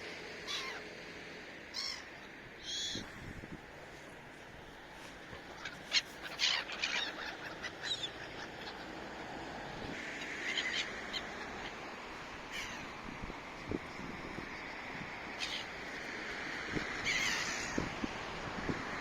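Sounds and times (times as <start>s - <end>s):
gulls calling harshly: 0.3s - 1.0s, 1.7s - 3.3s, 4.9s - 19.0s.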